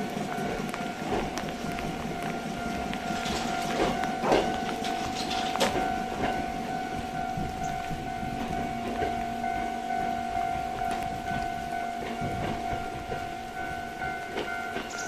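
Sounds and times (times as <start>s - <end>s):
train hum: 0.0s - 15.0s
train wheels clicking over rail joints: 0.0s - 15.0s.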